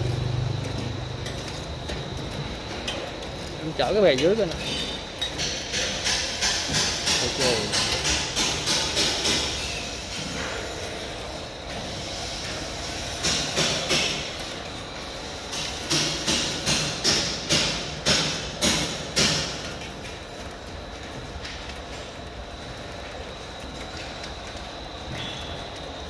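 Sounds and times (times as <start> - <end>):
fryer running: 0.0 - 26.0.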